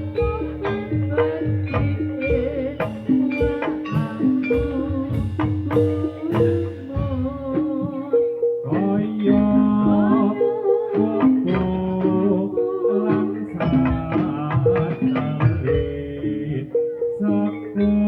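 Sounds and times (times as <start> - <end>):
drum strokes: 0.0 - 16.8
metallophones struck: 0.0 - 18.0
person singing: 0.0 - 18.0.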